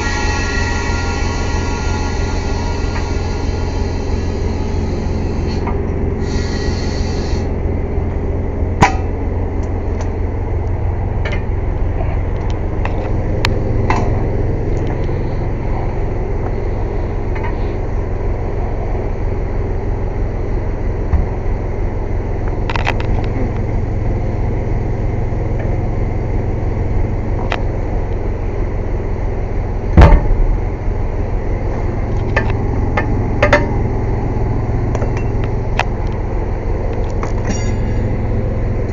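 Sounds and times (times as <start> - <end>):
air compressor rumbling: 0.0 - 38.9.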